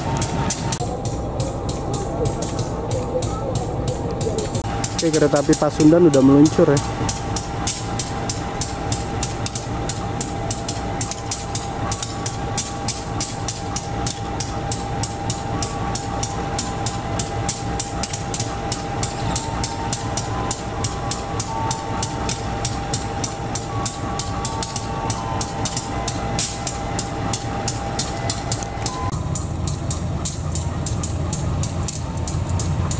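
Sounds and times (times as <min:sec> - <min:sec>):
low train rumble: 0:00.0 - 0:32.9
train wheels clicking over rail joints: 0:00.0 - 0:32.9.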